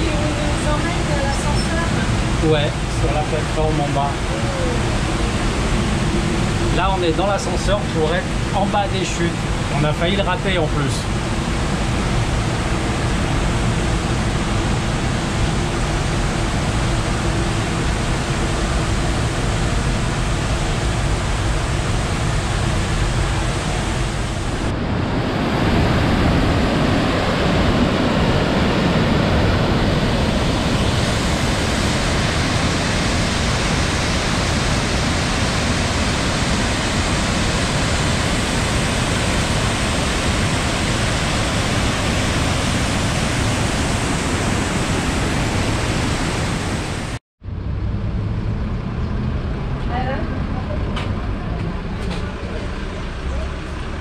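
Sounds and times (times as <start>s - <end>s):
waterfall rushing: 0.0s - 47.2s.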